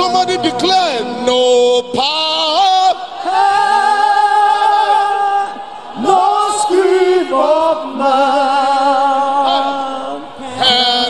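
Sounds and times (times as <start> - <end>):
voices singing with vibrato: 0.0 - 11.0.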